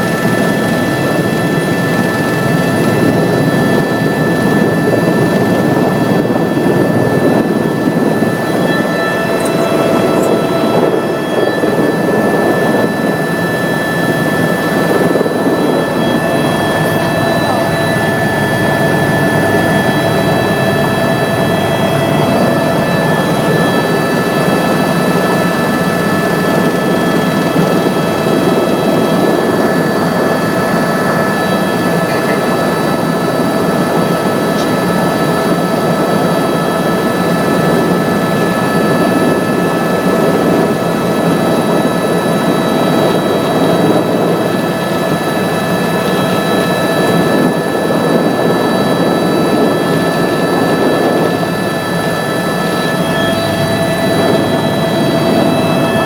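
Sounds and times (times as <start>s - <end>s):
helicopter rotor and engine noise: 0.0s - 56.0s
high steady whining tones: 0.0s - 56.0s.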